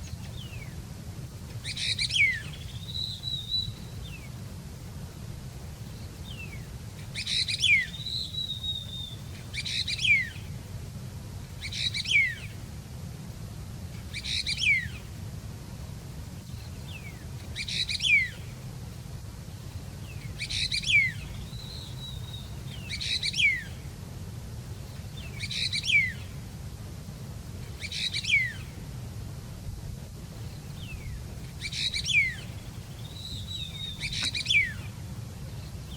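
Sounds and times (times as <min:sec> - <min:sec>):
songbird chirping song: 0:00.0 - 0:35.9
steady low hum: 0:00.0 - 0:35.9.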